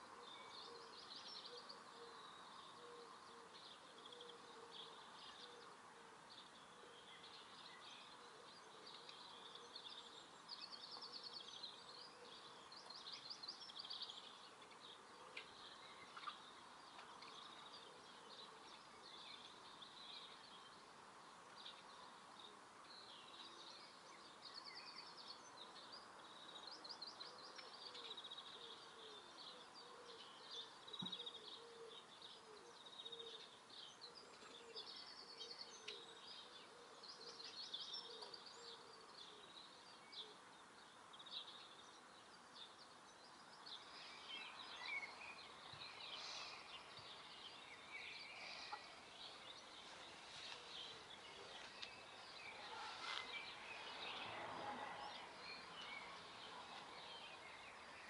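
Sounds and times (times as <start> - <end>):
low background noise: 0.0 - 58.0
small birds chirping: 0.0 - 58.0.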